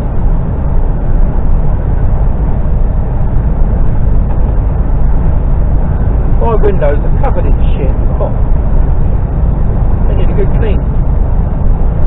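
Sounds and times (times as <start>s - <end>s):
lorry diesel engine rumble: 0.0s - 12.0s.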